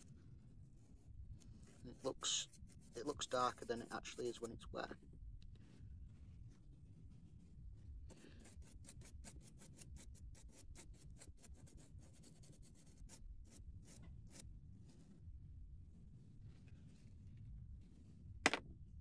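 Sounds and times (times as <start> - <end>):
paintbrush scrubbing a surface: 0.0 - 15.3, 15.9 - 18.4.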